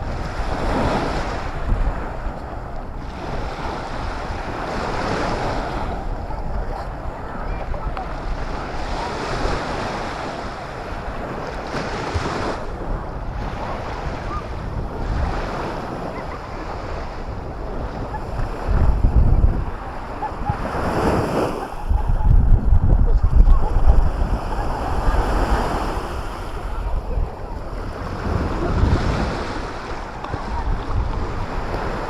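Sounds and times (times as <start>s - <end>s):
surf washing onto beach: 0.0s - 32.0s
wind buffeting microphone: 0.0s - 32.0s.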